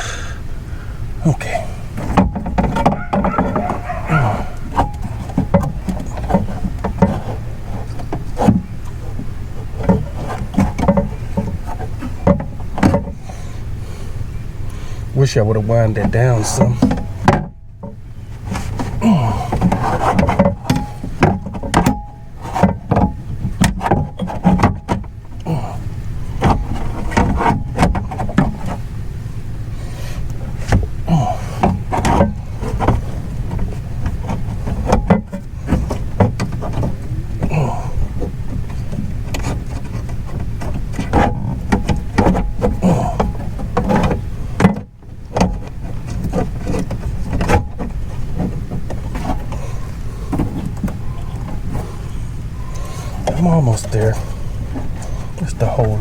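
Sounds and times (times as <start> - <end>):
steady low rumble: 0.0 - 24.4, 25.0 - 56.0
clicks and rattles in car door: 1.2 - 56.0.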